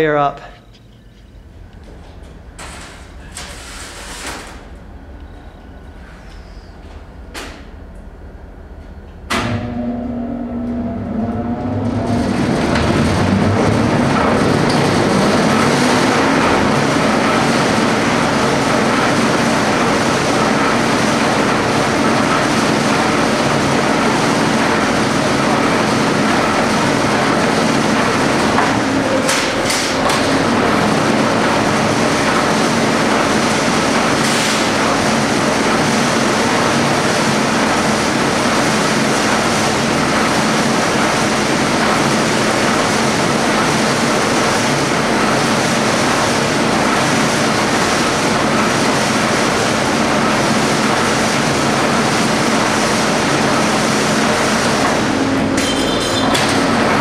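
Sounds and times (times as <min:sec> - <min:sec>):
power shear mechanical clatter: 0:09.3 - 0:57.0.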